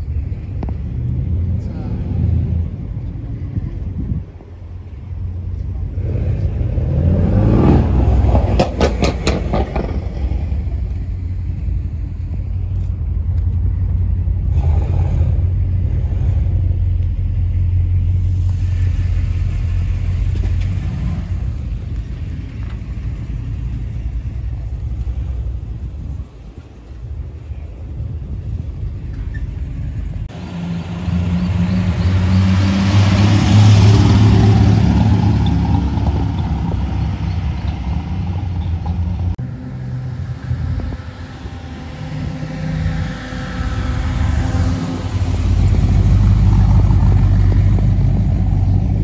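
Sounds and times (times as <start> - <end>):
motor vehicle rumble: 0.0 - 49.0.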